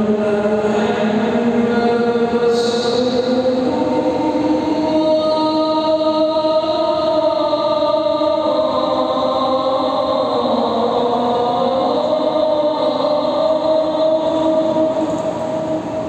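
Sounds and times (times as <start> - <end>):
person chanting long held notes: 0.0 - 16.0.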